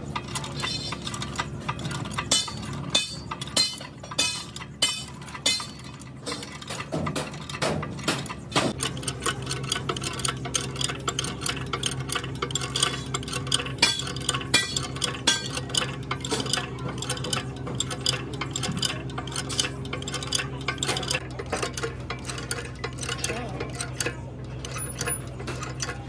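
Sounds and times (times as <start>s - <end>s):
low machine hum: 0.0s - 26.0s
metallic clicks of jack pumping: 0.0s - 26.0s.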